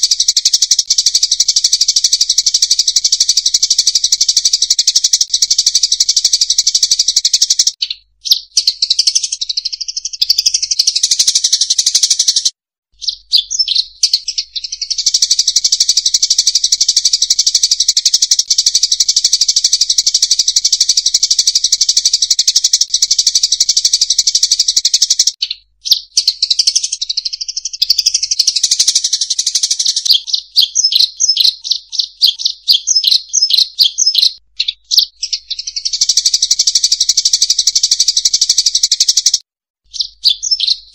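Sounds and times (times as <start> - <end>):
small birds chattering: 0.0 - 40.9.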